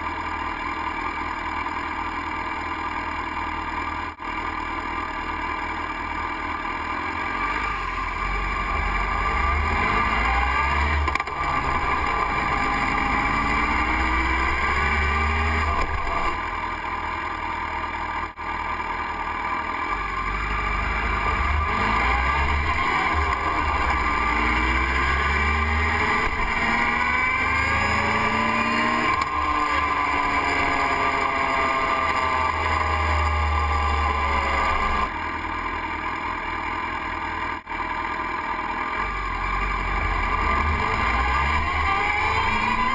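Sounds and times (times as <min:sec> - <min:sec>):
motorcycle engine accelerating: 0:05.8 - 0:42.9.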